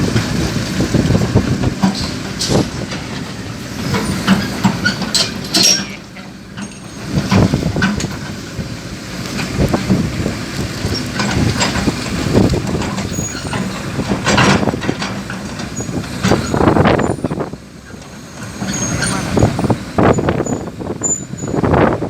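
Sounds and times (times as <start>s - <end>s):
coal clattering and rumbling: 0.0s - 21.6s
truck engine running: 0.0s - 22.0s.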